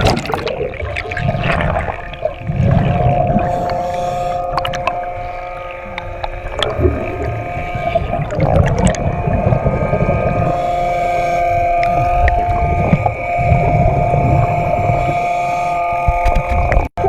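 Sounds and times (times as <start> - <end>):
small motor whining underwater: 0.0 - 17.0
water churning rumble: 0.0 - 17.0.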